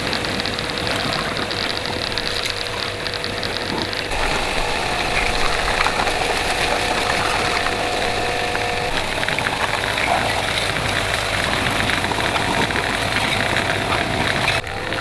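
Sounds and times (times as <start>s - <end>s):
motor running: 0.0s - 15.0s.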